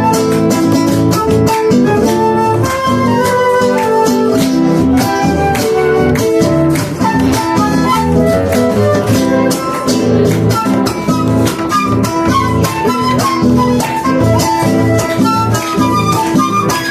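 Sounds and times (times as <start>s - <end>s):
acoustic guitars: 0.0s - 16.9s.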